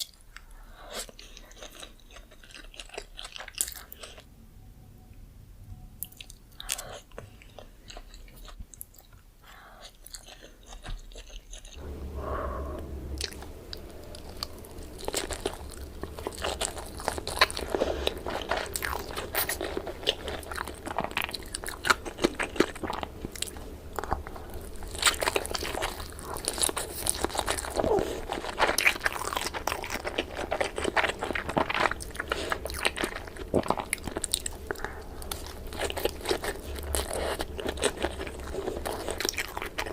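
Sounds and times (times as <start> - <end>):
chewing and biting food: 0.0 - 4.3, 6.1 - 11.8, 14.1 - 39.9
low steady hum: 0.0 - 39.9.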